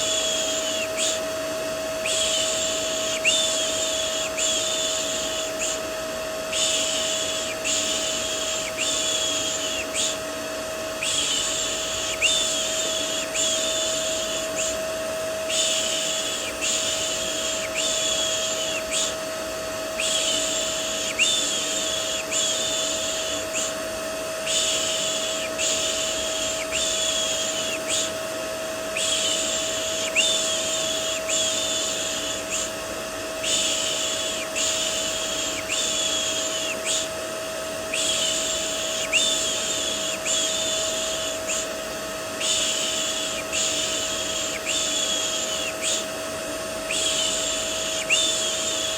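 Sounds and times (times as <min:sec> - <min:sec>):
vacuum cleaner humming: 0:00.0 - 0:48.9.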